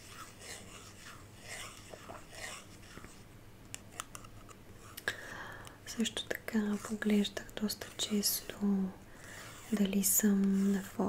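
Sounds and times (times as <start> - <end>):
soft scratchy rubbing: 0.0 - 5.0, 5.9 - 11.0.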